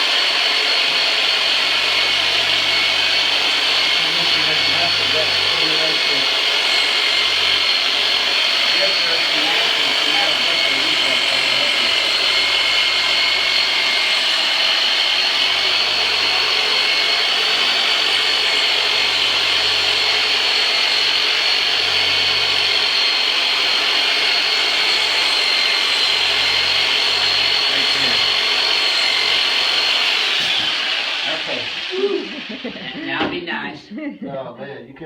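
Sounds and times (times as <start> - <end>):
electric massage machine whining: 0.0 - 33.8.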